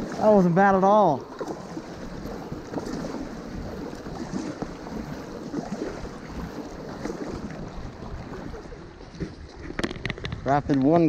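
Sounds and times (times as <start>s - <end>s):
river water rushing and splashing: 0.0s - 9.8s.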